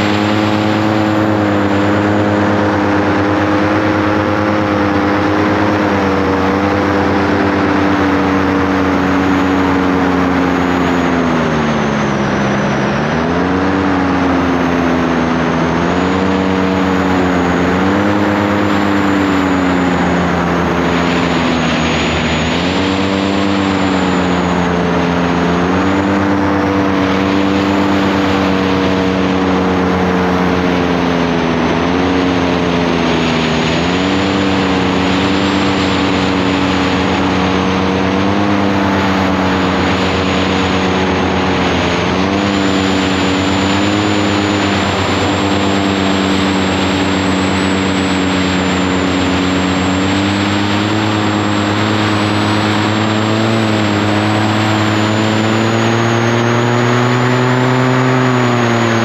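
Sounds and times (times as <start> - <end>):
small aircraft engine and propeller: 0.0 - 59.0.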